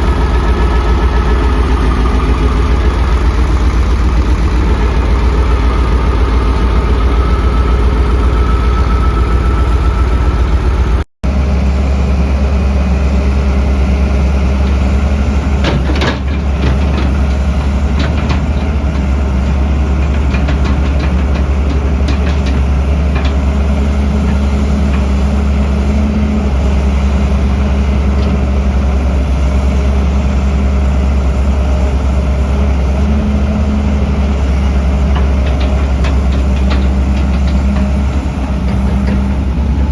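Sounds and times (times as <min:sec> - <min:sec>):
diesel machinery engines running: 0:00.0 - 0:39.9.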